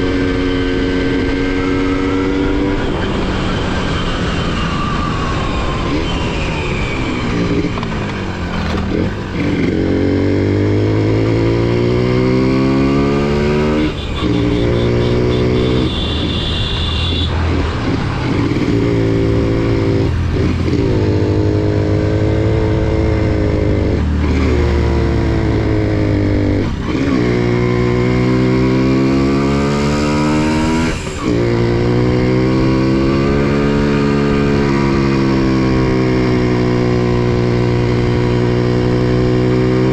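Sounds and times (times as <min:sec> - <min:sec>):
motorcycle engine revving: 0:07.0 - 0:39.9.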